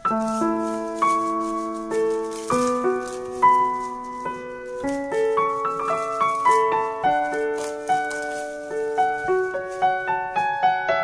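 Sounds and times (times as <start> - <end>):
shaker rhythm: 0.0 - 10.6
sustained keyboard notes: 0.0 - 11.0.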